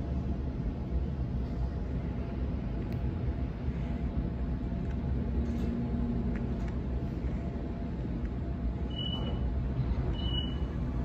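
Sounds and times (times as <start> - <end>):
faint traction inverter hum: 0.0 - 11.0
train wheels rumbling on rail: 0.0 - 11.0.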